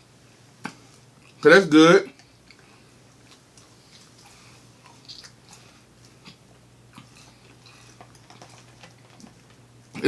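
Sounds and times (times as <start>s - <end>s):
person chewing food: 0.6s - 1.4s, 2.2s - 10.0s.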